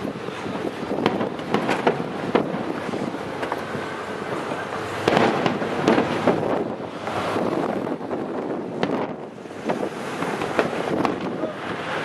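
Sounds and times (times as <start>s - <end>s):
fireworks bangs: 0.0s - 12.0s
wind noise on microphone: 0.0s - 12.0s.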